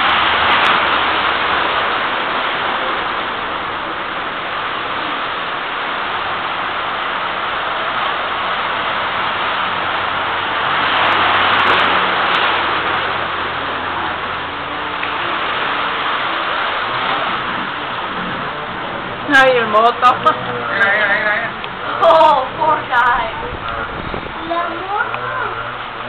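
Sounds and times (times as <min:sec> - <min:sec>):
rushing floodwater: 0:00.0 - 0:26.0.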